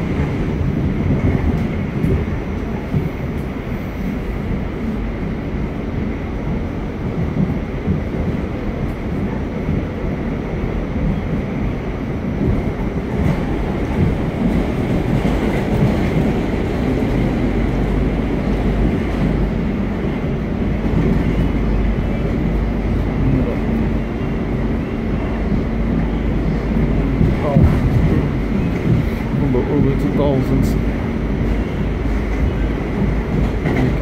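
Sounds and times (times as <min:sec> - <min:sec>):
subway train wheels rumbling on rail: 0:00.0 - 0:34.0.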